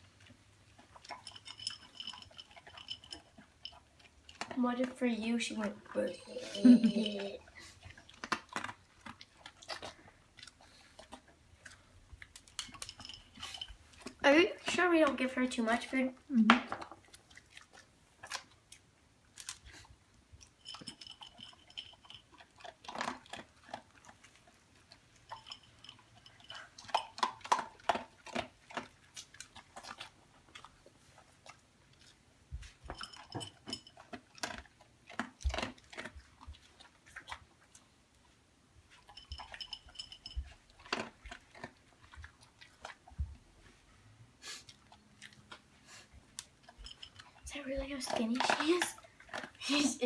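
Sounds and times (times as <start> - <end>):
pet chewing food: 0.0 - 50.0.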